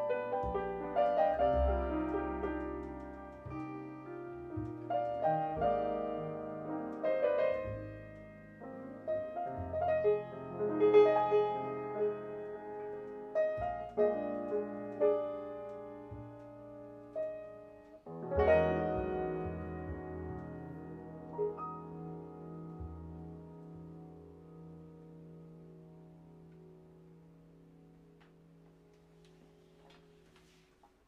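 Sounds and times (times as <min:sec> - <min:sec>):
slow jazz piano: 0:00.0 - 0:31.0.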